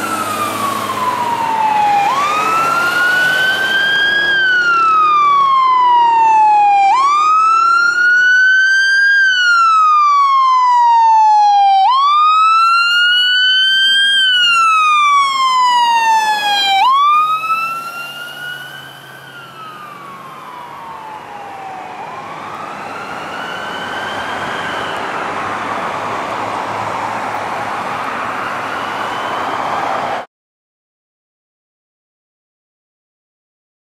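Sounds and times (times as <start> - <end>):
wailing emergency siren: 0.0 - 30.3.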